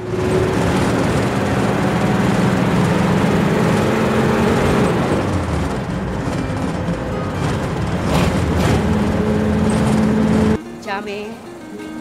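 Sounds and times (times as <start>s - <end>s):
bus engine running: 0.0s - 12.0s
road and wind noise: 0.0s - 12.0s.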